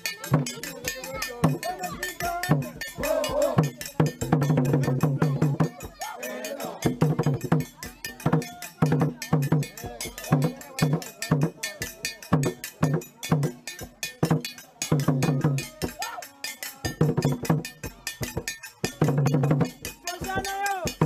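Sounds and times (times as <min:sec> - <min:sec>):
drum ensemble playing fast rhythm: 0:00.0 - 0:21.0.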